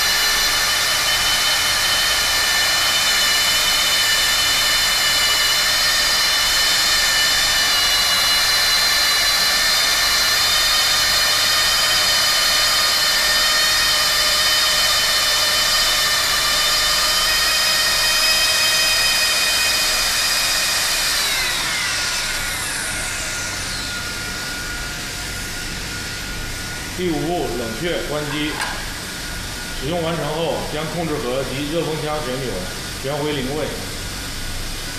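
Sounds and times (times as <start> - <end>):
blower motor whine: 0.0 - 34.9.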